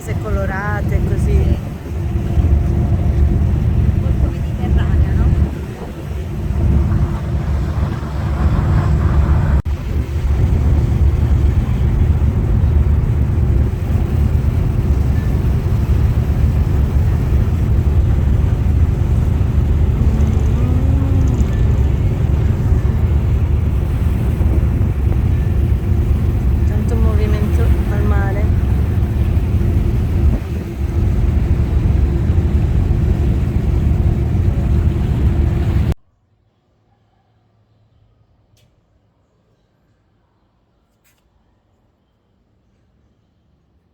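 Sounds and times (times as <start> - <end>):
boat engine droning: 0.0 - 36.0
wind buffeting microphone: 0.0 - 36.0.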